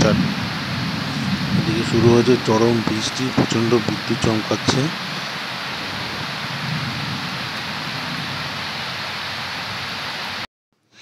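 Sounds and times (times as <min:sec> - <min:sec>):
heavy rain pouring: 0:00.0 - 0:10.5.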